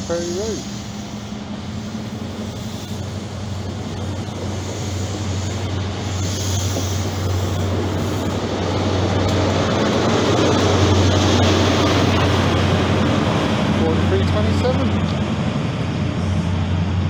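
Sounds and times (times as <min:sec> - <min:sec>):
low diesel hum: 0:00.0 - 0:17.0
train coaches rumbling over rails: 0:00.0 - 0:17.0.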